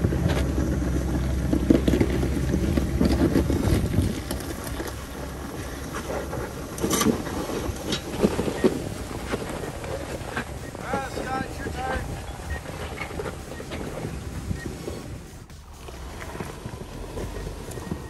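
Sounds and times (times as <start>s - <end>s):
sharp clicks and crunches: 0.0s - 14.8s
engine low rumble: 0.0s - 18.0s
wind buffeting microphone: 0.0s - 18.0s.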